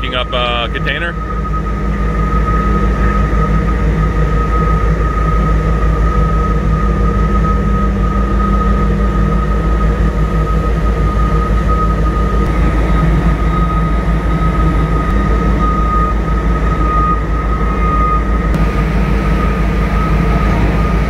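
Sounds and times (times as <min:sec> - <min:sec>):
high-pitched whine: 0:00.0 - 0:21.0
industrial machinery drone: 0:00.0 - 0:21.0.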